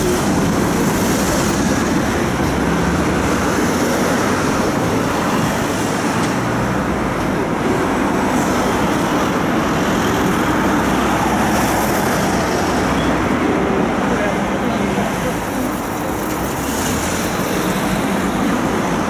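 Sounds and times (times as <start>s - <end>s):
cars passing: 0.0s - 19.0s
tram running noise: 0.0s - 19.0s.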